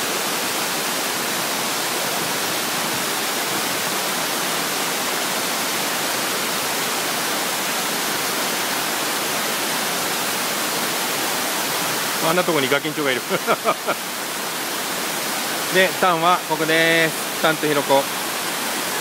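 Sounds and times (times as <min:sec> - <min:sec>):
waterfall pouring: 0:00.0 - 0:19.0.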